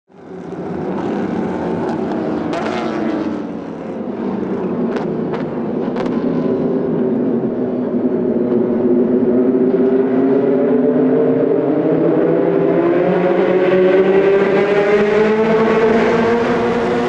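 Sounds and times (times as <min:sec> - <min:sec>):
race car engines: 0:00.1 - 0:17.0.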